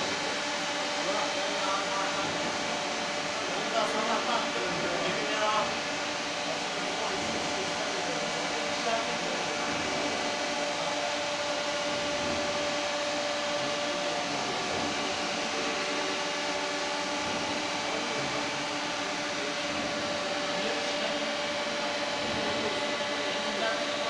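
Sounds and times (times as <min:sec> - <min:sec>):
machine whir and hum: 0:00.0 - 0:24.0
steady whining tones: 0:00.0 - 0:24.0.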